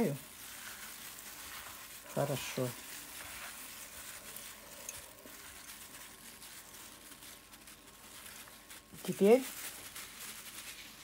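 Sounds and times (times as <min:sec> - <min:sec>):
wet rustling and squishing: 0:00.0 - 0:11.0.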